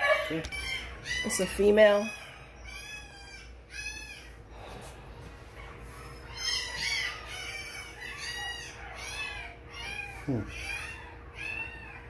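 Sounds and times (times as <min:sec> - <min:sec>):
puppies crying: 0:00.0 - 0:12.0.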